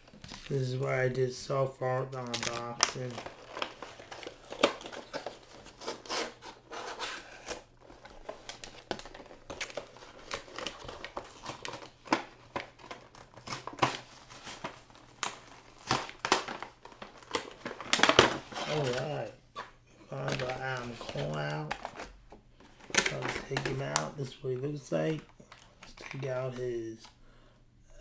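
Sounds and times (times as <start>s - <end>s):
packaging crinkling and tearing: 0.0s - 27.2s.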